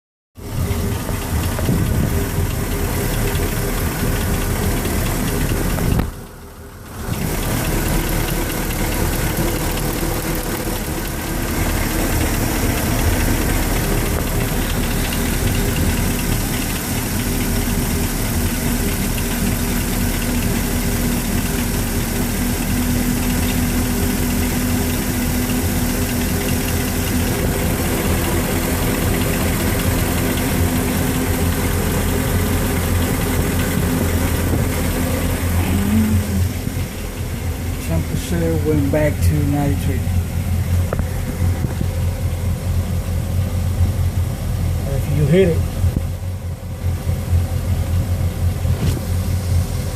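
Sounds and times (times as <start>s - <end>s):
boat engine idling: 0.4s - 49.9s.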